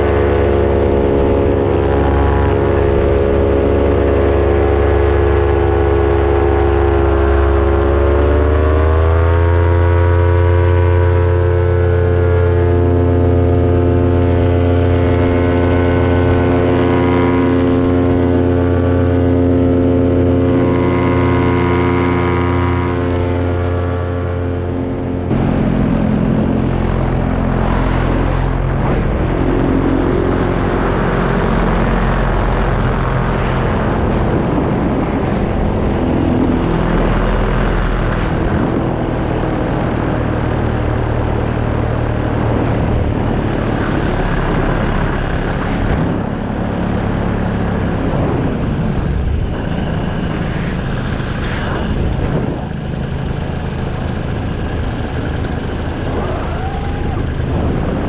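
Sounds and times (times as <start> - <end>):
paramotor engine and propeller drone: 0.0 - 58.0.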